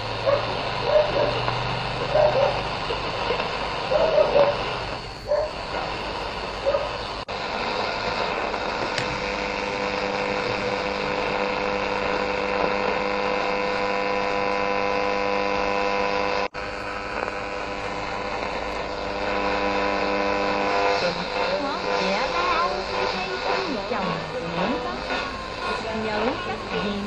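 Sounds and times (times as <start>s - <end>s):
radio hiss with steady hum: 0.0s - 27.0s.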